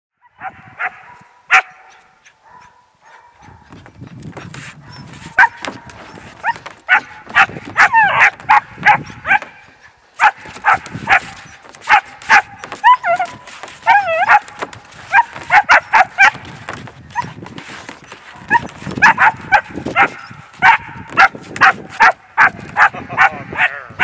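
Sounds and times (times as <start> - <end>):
puppies barking and yipping: 0.2 - 23.8.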